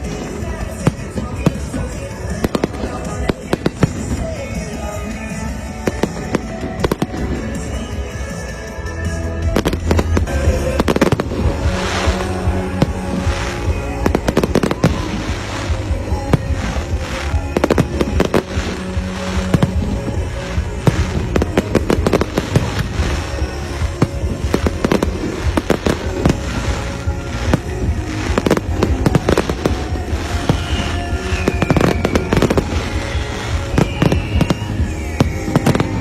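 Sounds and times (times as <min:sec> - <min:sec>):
fireworks bangs and crackles: 0:00.0 - 0:36.0
music playing: 0:00.0 - 0:36.0.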